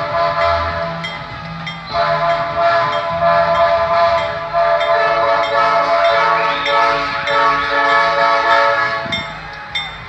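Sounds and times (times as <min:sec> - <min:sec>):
locomotive air horn blasts: 0:00.0 - 0:01.1, 0:01.9 - 0:09.4
locomotive engine running: 0:00.0 - 0:10.0.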